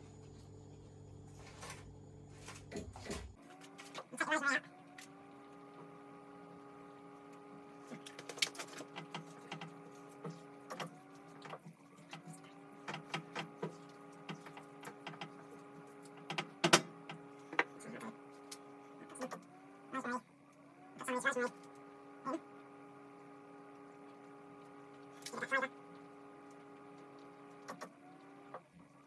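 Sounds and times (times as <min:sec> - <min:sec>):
mechanical hum winding up: 0:00.0 - 0:29.0.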